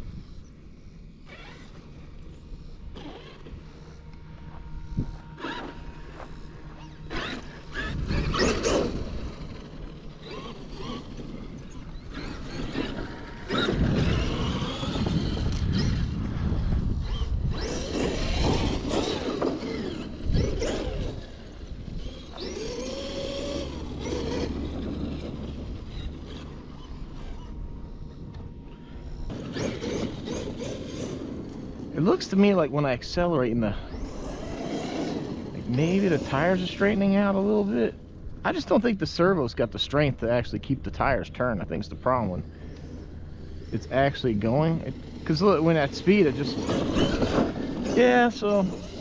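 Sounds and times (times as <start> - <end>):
rc truck motor whine: 0.0 - 49.0.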